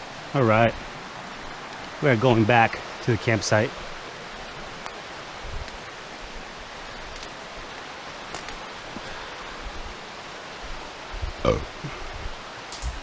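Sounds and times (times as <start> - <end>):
flowing creek water: 0.0 - 13.0.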